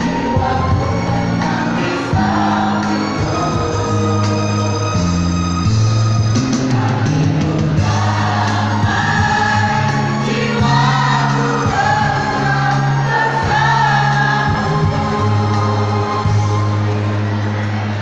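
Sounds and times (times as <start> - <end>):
choir singing long low notes: 0.0 - 18.0.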